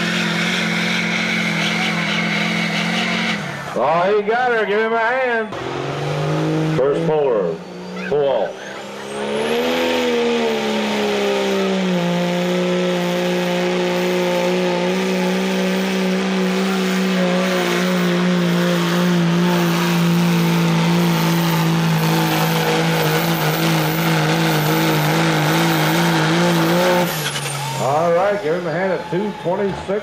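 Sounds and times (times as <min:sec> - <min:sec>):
diesel engine at full throttle: 0:00.0 - 0:30.0.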